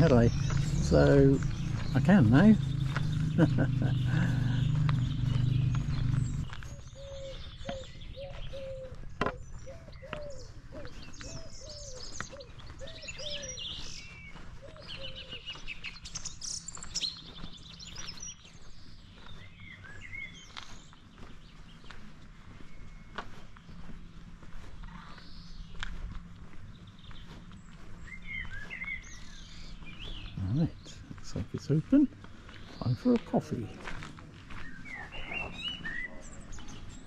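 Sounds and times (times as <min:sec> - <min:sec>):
small birds chirping and singing: 0:00.0 - 0:37.0.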